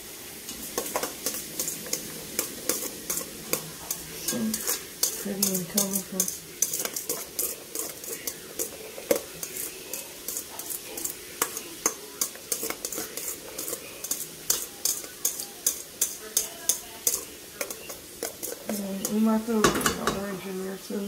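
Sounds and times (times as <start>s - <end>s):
vegetables rattling in metal bowl: 0.5s - 21.0s.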